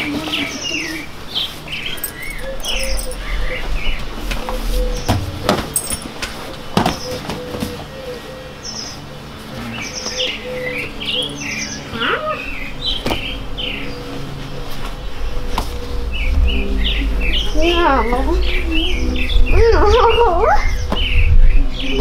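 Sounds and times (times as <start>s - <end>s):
small birds chirping: 0.2s - 6.0s, 6.8s - 22.0s.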